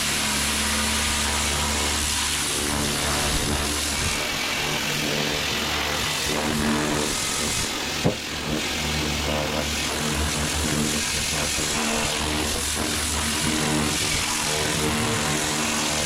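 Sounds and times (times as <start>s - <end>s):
pressure washer motor and pump: 0.0s - 16.0s.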